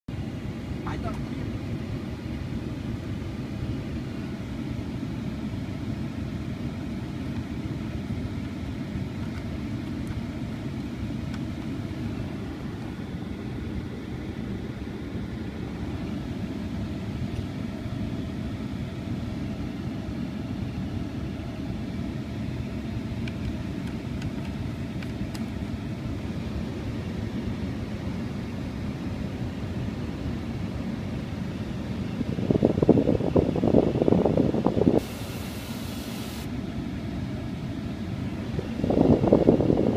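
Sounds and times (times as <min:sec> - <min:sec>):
climate control fan air: 0:00.1 - 0:39.9
truck cab engine rumble: 0:00.1 - 0:39.9.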